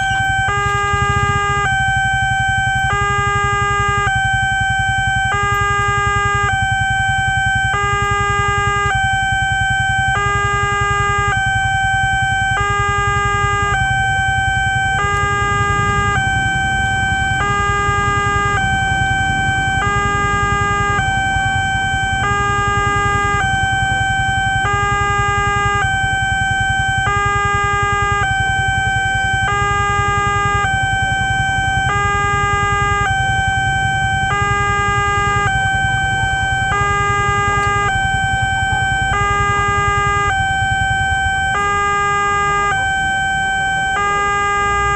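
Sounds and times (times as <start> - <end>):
two-tone level crossing alarm: 0.0 - 44.9.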